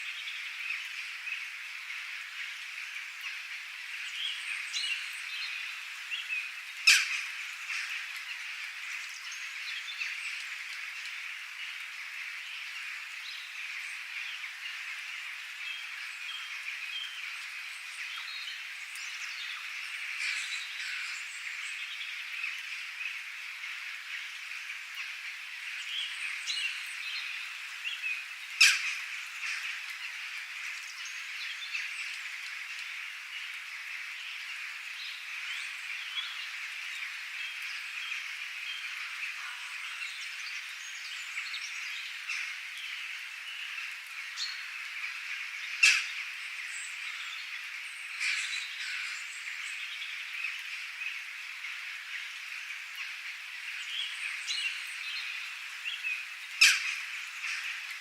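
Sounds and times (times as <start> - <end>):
chorus of frogs and birds: 0.0 - 58.0.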